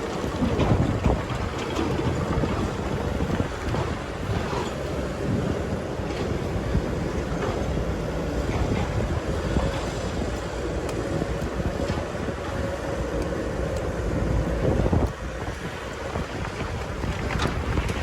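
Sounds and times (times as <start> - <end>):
excavator engine rumble: 0.0 - 18.0
excavator whine: 0.0 - 18.0.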